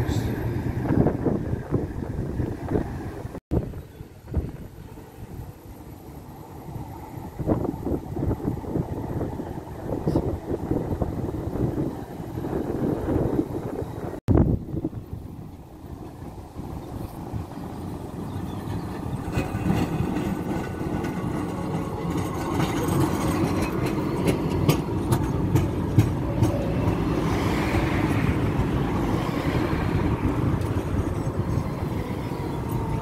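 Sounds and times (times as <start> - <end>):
tram running on rails: 0.0 - 33.0.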